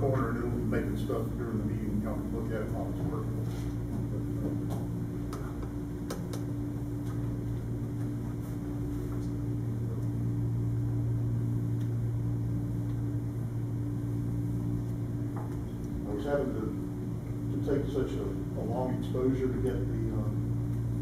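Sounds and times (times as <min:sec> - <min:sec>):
low hum of fan equipment: 0:00.0 - 0:21.0.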